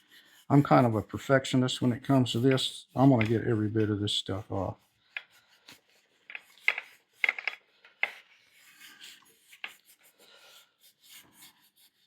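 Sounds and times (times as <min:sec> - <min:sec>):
scrubbing on speaker cone: 0:00.0 - 0:11.7.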